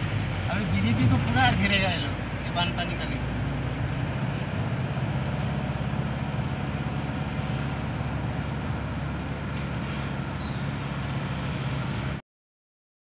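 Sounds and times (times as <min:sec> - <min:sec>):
car road and engine rumble: 0:00.0 - 0:12.2
passenger train running: 0:00.0 - 0:12.2.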